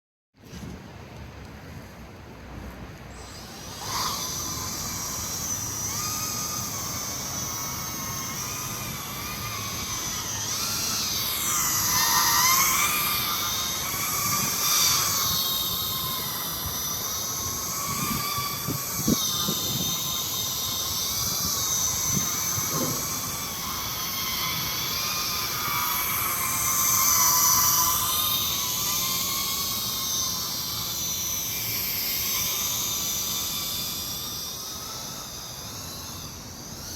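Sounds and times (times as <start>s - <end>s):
drone propellers whining: 3.1s - 36.9s.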